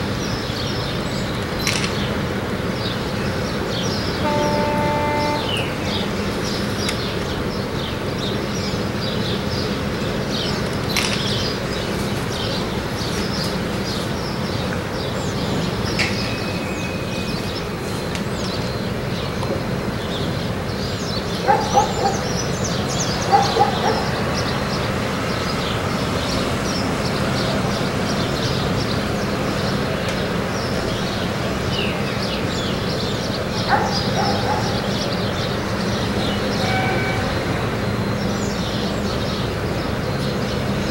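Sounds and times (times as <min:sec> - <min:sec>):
birds chirping: 0:00.1 - 0:40.9
loud bird calls: 0:00.1 - 0:40.9.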